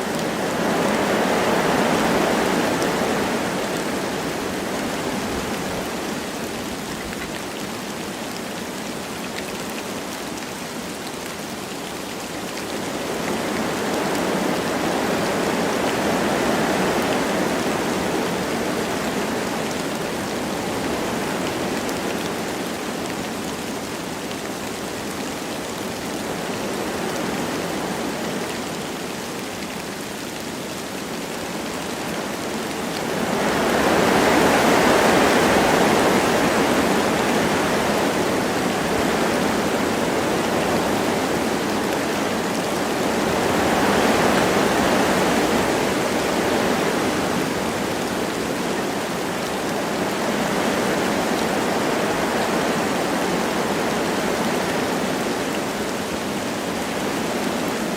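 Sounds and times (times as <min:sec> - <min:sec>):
light rain falling: 0:00.0 - 0:57.9
wind blowing through trees: 0:00.0 - 0:57.9.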